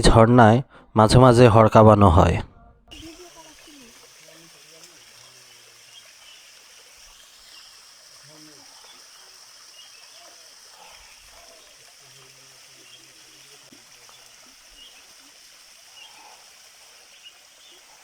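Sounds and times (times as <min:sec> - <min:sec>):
small waterfall trickling and splashing: 0:02.9 - 0:18.0.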